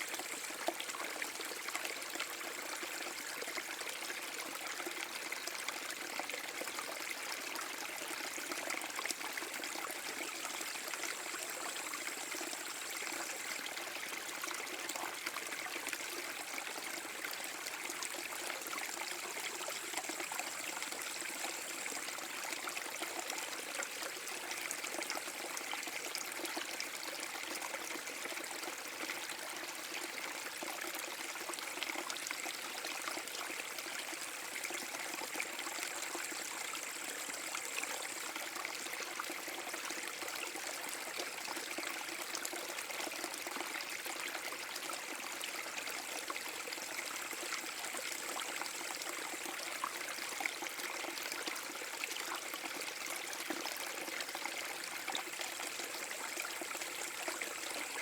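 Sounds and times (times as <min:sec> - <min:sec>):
brook over small waterfall: 0:00.0 - 0:58.0.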